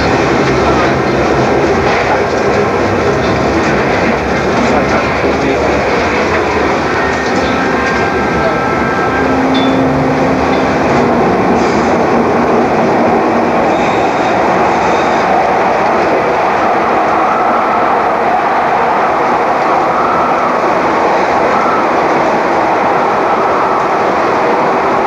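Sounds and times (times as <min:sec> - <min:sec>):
light-rail train running: 0:00.0 - 0:25.0.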